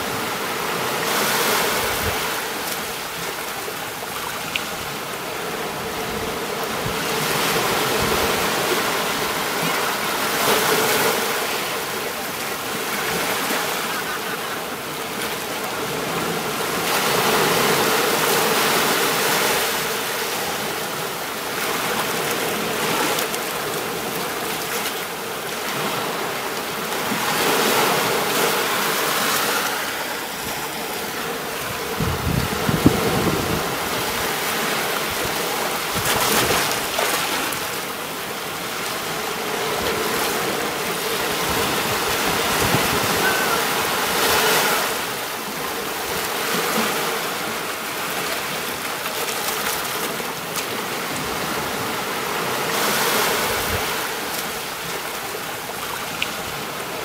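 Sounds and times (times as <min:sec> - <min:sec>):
surf washing onto beach: 0:00.0 - 0:57.0.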